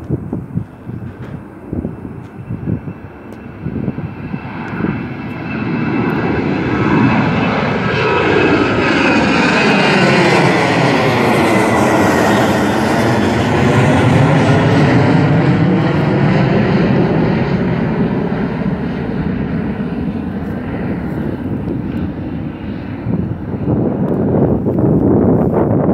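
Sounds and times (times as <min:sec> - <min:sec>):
jet airliner engine noise: 0:00.0 - 0:25.9.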